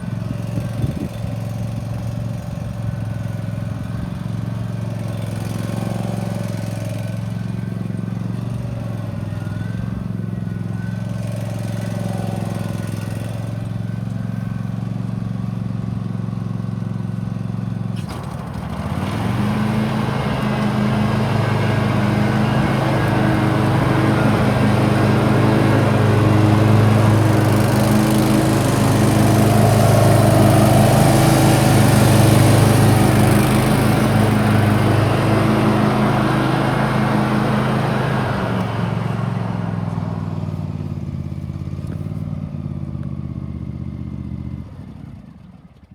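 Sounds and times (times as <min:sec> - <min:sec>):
mower engine idling and revving: 0:00.0 - 0:45.9.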